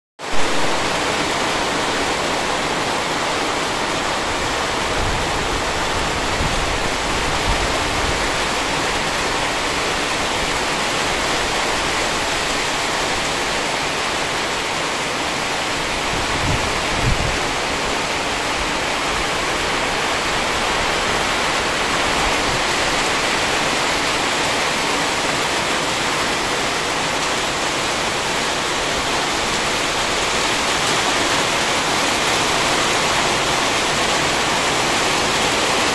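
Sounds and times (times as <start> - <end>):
heavy rain falling: 0.2 - 35.9.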